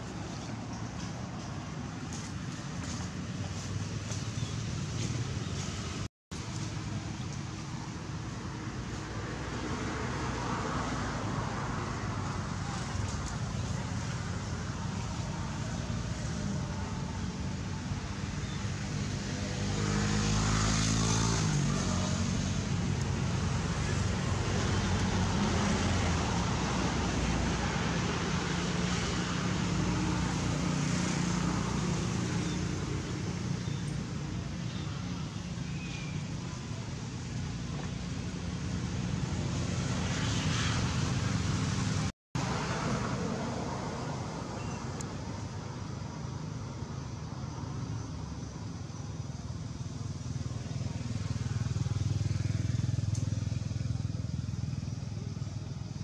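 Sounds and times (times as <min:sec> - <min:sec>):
motor vehicle rumble: 0:00.0 - 0:56.0.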